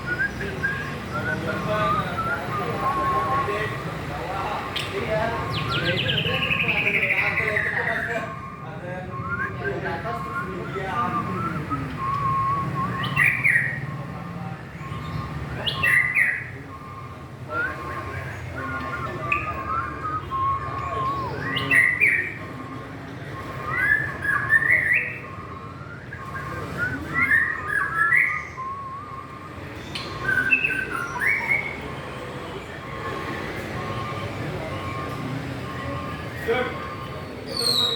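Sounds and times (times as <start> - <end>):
songbird whistling and chirping: 0.0 - 37.9.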